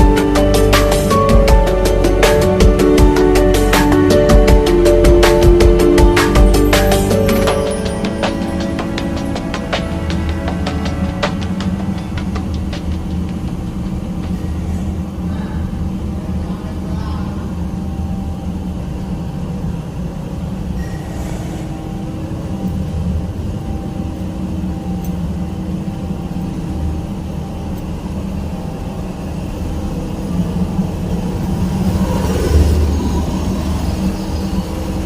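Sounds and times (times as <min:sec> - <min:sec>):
boiler burner rumbling: 0:00.0 - 0:35.0.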